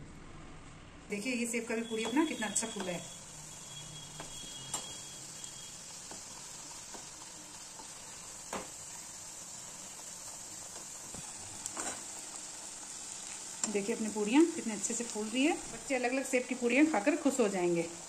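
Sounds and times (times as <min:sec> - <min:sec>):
oil sizzling: 0:01.1 - 0:18.0.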